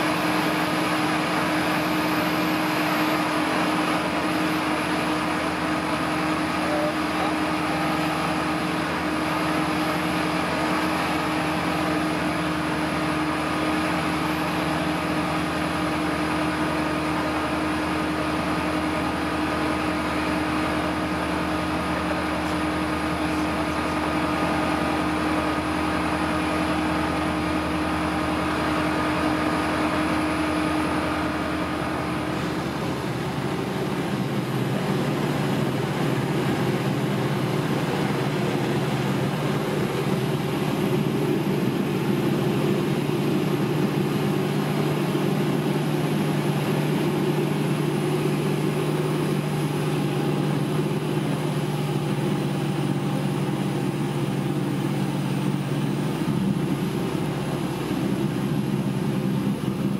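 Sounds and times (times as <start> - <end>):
propeller engine droning: 0.0 - 59.9.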